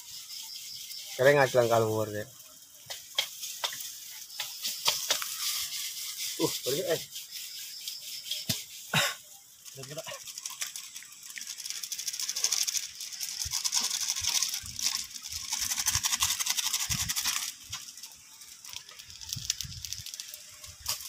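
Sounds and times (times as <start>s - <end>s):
rice sizzling in a wok: 0.0s - 21.0s.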